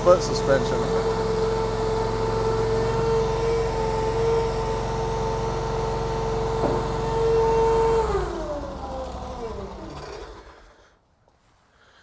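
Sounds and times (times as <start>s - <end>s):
skid steer engine idling: 0.0s - 11.0s.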